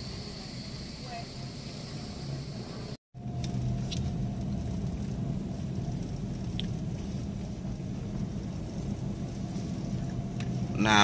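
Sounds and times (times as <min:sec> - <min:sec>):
car rumbling moving off: 0:00.0 - 0:11.0.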